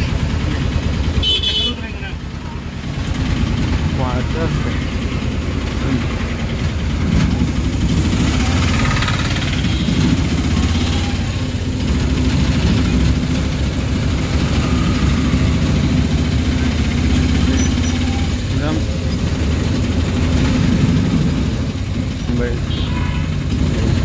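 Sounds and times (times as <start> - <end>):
auto-rickshaw engine running: 0.0 - 24.0
street traffic: 0.0 - 24.0.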